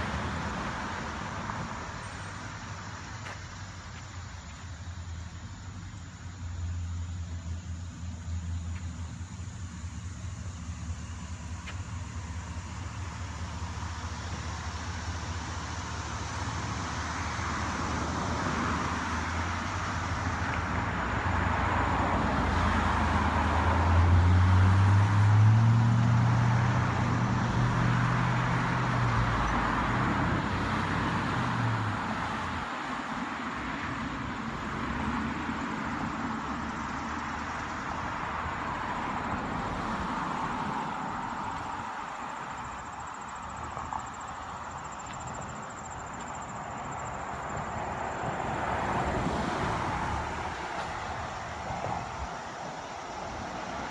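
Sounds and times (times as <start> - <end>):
vehicle passing: 8.4 - 53.9.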